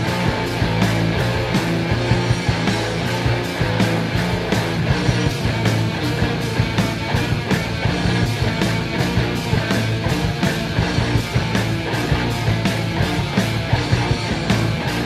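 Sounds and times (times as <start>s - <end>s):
bass guitar: 0.0s - 15.0s
drums playing steady beat: 0.0s - 15.0s
electric guitar: 0.0s - 15.0s.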